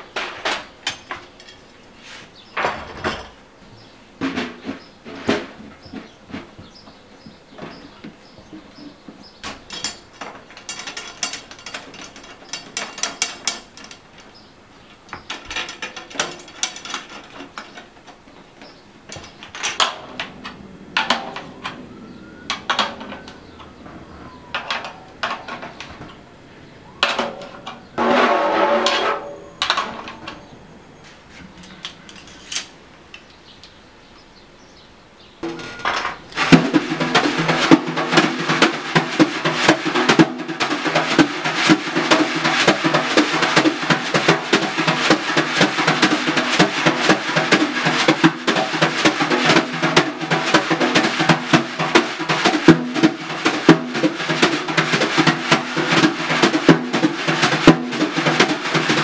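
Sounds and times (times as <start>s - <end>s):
metallic rattling and clattering: 0.0s - 1.9s, 2.5s - 6.8s, 9.3s - 26.3s, 31.6s - 32.8s, 35.4s - 59.0s.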